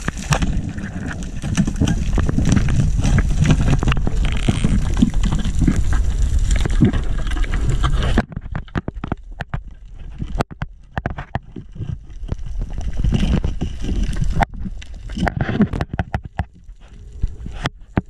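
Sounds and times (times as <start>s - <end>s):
sharp underwater clicks and knocks: 0.0s - 18.0s
underwater water noise: 0.0s - 18.0s.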